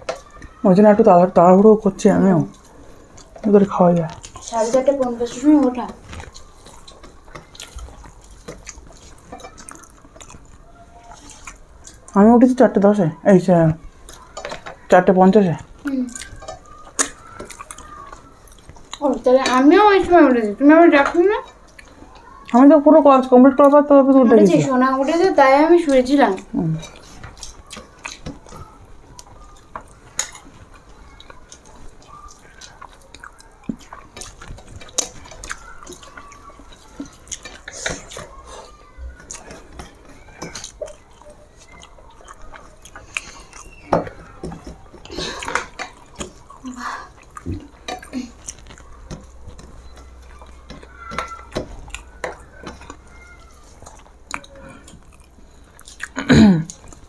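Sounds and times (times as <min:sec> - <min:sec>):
plates and utensils clinking: 0:00.0 - 0:12.2, 0:13.9 - 0:22.4, 0:24.4 - 0:46.6, 0:47.2 - 0:57.0
chewing: 0:00.0 - 0:57.0
wet eating squelches: 0:00.0 - 0:57.0.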